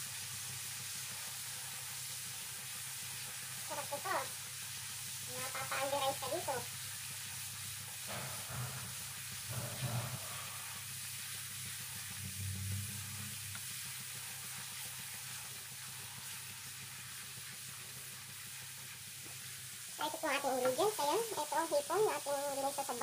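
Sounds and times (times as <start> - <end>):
garlic sizzling in butter: 0.0 - 12.3, 12.9 - 23.0.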